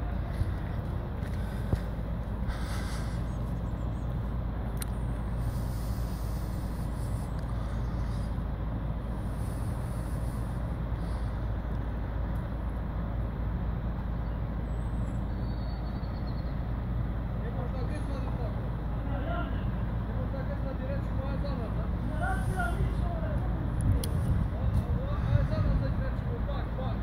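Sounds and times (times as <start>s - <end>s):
lorry diesel engine rumbling: 0.0s - 27.0s.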